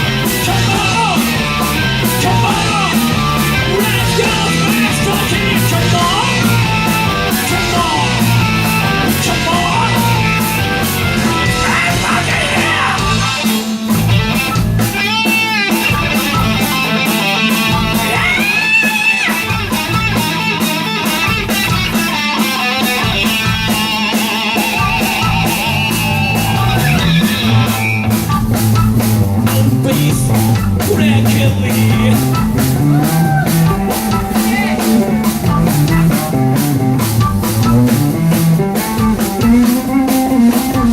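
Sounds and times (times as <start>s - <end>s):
bass guitar: 0.0s - 40.9s
drum kit: 0.0s - 40.9s
electric guitar lead: 0.0s - 40.9s.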